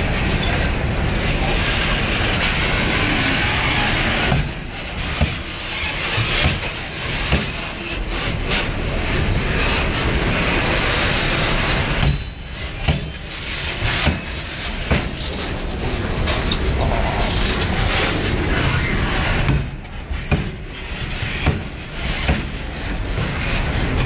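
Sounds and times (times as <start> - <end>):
freight train wagons rumbling: 0.0 - 24.0
wheels knocking over rail joints: 2.1 - 10.5, 11.6 - 24.0.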